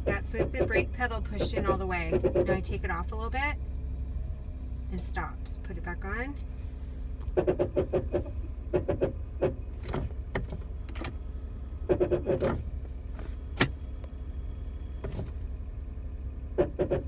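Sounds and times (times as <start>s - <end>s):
brakes pulsing groan: 0.0s - 17.0s.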